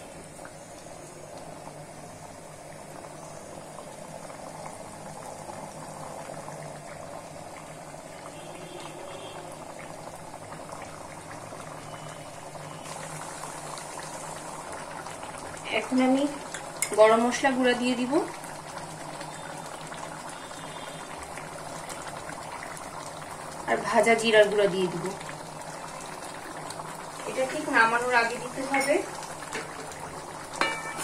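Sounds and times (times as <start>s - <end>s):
curry bubbling in a pan: 0.0s - 31.0s.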